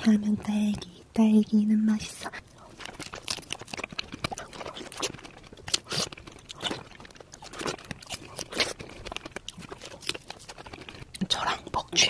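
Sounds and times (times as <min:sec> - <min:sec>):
chewing strawberries: 0:02.1 - 0:12.0.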